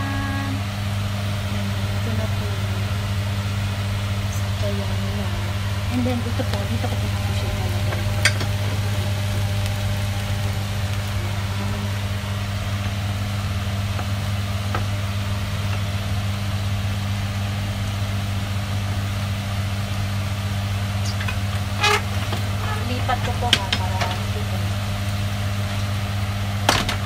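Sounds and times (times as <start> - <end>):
gas burner hiss: 0.0 - 27.0
low electric fan hum: 0.0 - 27.0.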